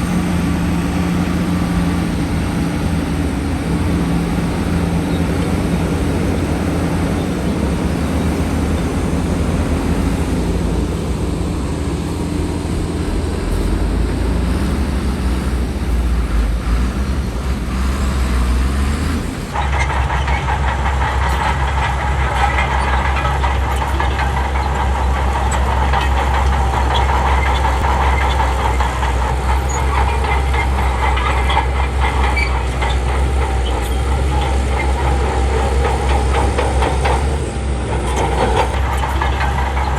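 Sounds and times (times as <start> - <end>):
diesel machinery engine: 0.0 - 39.9
machinery clatter with whine: 0.0 - 39.9.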